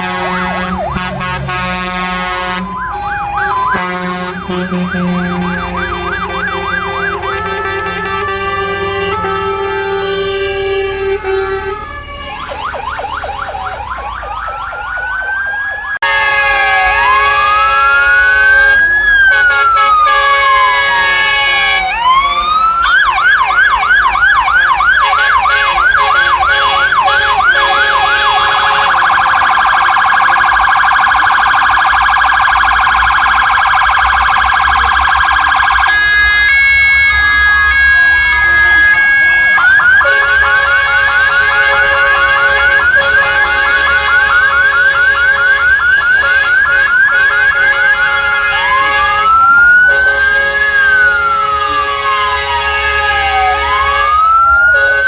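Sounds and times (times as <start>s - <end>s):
fire engine sirens wailing: 0.0s - 55.0s.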